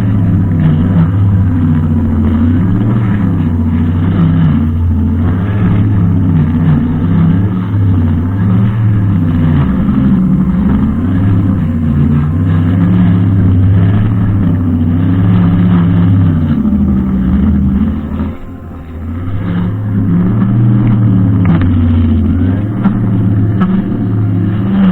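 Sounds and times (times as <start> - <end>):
brushcutter engine running: 0.0 - 24.9.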